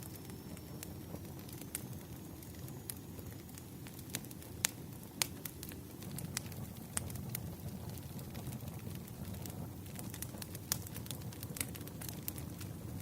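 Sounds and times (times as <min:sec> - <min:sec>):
low rumble of burning logs: 0:00.0 - 0:13.0
wood fire crackling: 0:00.0 - 0:13.0.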